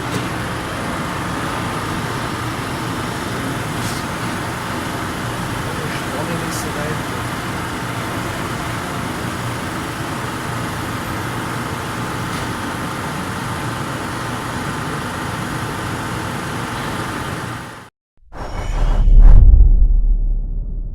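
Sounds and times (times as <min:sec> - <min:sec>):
industrial machinery hum: 0:00.0 - 0:20.9.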